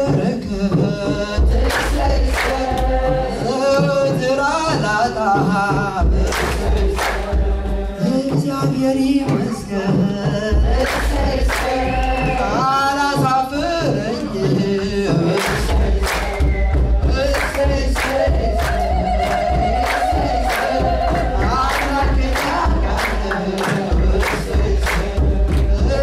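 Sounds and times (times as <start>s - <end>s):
group singing a hymn: 0.0s - 26.0s.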